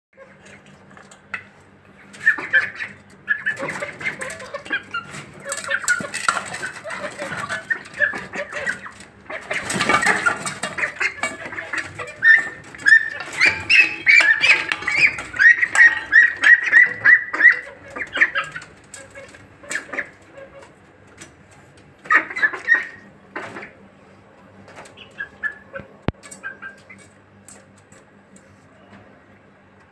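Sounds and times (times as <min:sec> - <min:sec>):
young poultry peeping: 0:00.2 - 0:20.8, 0:21.4 - 0:23.8, 0:24.7 - 0:27.3.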